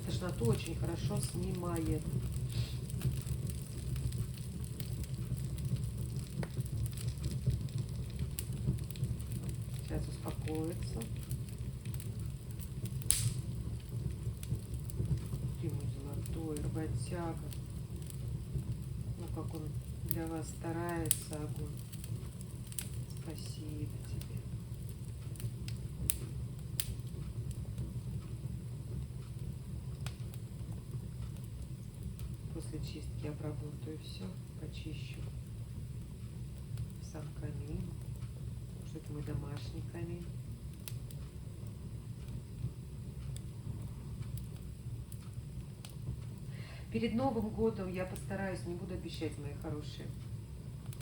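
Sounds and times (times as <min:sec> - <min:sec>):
fire burning with crackles: 0:00.0 - 0:51.0.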